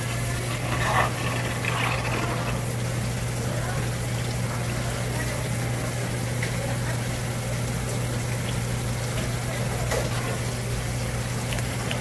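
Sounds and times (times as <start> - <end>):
water pump humming: 0.0 - 12.0.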